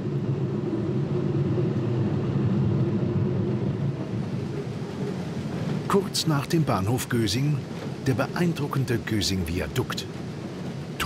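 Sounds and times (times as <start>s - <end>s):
electric train rumbling on track: 0.0s - 11.0s.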